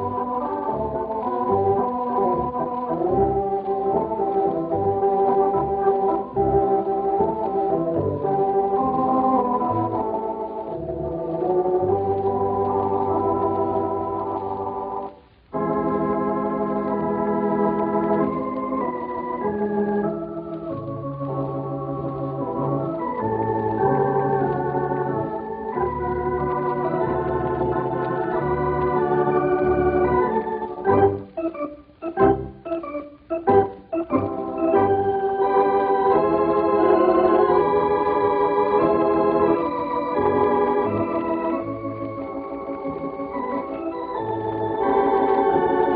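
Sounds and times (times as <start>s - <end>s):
organ playing sustained chords: 0.0s - 45.9s.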